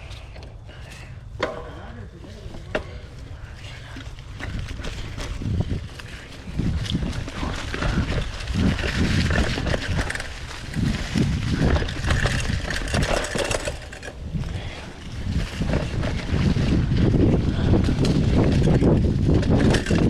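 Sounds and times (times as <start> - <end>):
bike rattling over bumps: 0.0 - 20.0
bike tyre noise: 0.0 - 20.0
wind buffeting microphone: 0.0 - 20.0.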